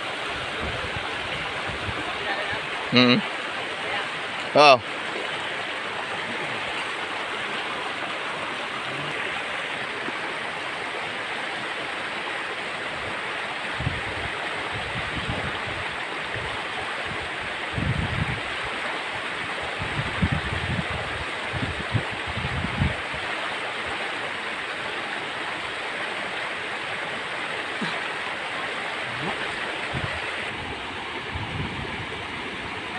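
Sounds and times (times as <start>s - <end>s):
river water rushing over rocks: 0.0s - 32.9s.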